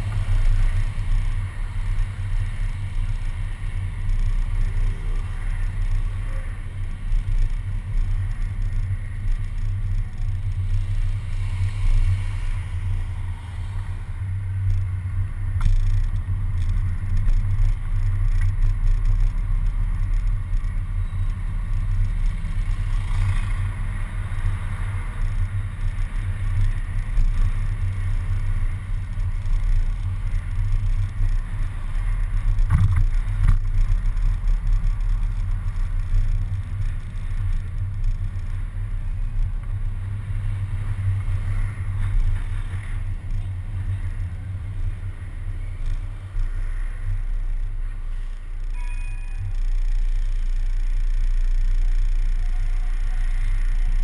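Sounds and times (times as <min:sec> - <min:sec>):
bus engine rumble: 0:00.0 - 0:54.0
road and wind noise: 0:00.0 - 0:54.0.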